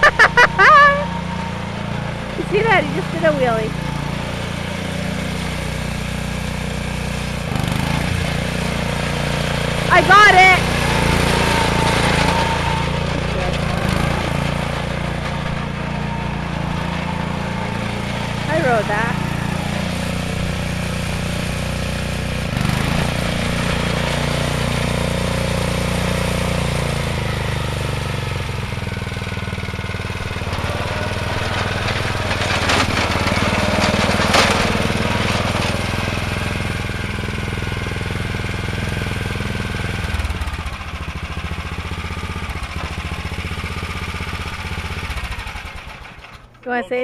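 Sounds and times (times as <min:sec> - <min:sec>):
small engine running: 0:00.0 - 0:47.0.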